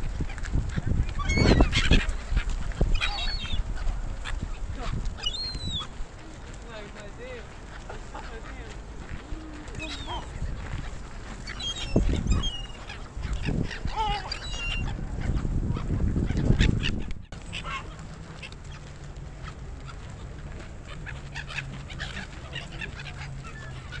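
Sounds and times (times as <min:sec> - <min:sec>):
gulls calling: 0:00.8 - 0:19.0, 0:19.6 - 0:24.0.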